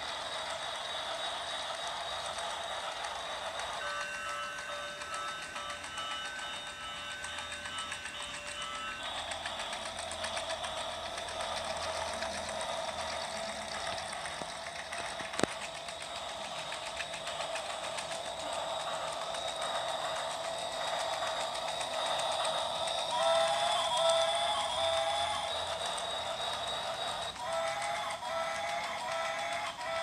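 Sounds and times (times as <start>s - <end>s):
toy train motor whirring: 0.0s - 30.0s.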